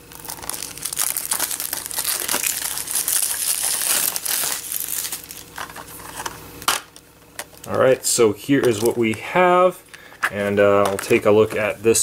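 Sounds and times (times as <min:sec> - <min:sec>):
packaging crinkling and rustling: 0:00.0 - 0:06.8, 0:07.4 - 0:12.0.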